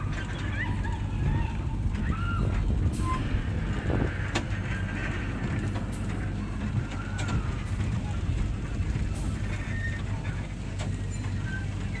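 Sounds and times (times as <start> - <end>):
ride train rumbling: 0.0 - 12.0.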